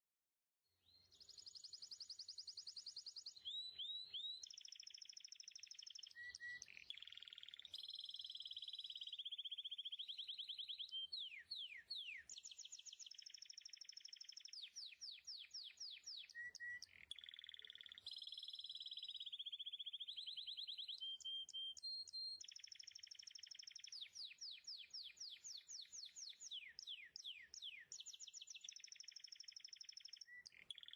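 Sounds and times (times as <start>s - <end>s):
songbird singing: 0.8s - 30.9s.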